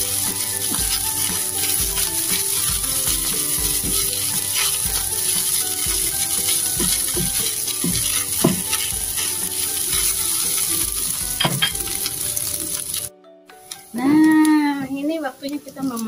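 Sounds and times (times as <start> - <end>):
spatula scraping a pan: 0.0 - 13.1
rice sizzling in a frying pan: 0.0 - 16.0.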